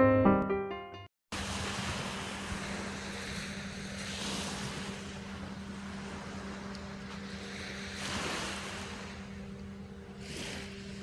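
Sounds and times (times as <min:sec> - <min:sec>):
small waves washing onto sand: 0:01.3 - 0:11.0
steady low hum: 0:02.2 - 0:11.0.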